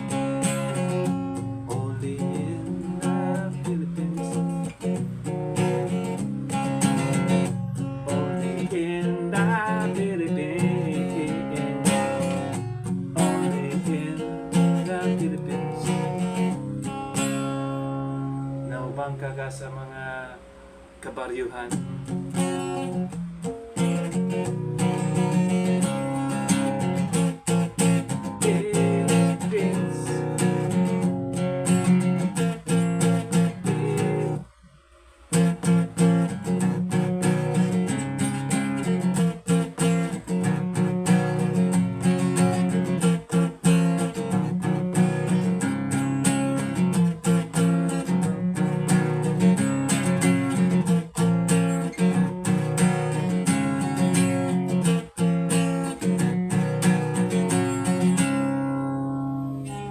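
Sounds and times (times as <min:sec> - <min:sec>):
guitar strumming chords: 0:00.0 - 0:59.9.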